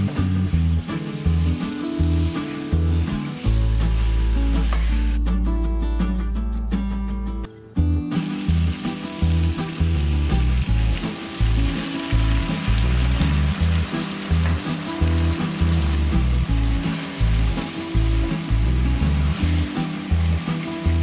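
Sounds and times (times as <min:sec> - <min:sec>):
meat sizzling in a wok: 0:00.0 - 0:05.2, 0:08.1 - 0:21.0
background music with bass line: 0:00.0 - 0:21.0.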